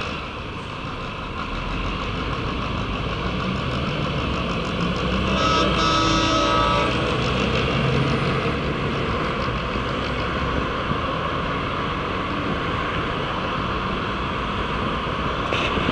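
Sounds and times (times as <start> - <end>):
city bus driving past: 0.0 - 15.9
passing cars: 0.0 - 15.9.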